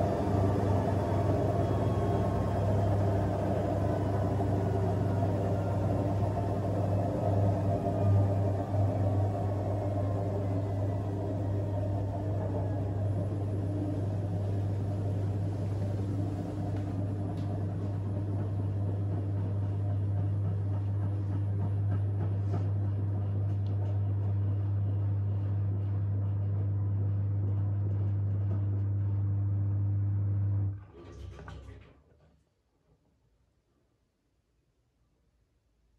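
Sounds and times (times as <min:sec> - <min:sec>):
washing machine spinning hum: 0:00.0 - 0:31.8.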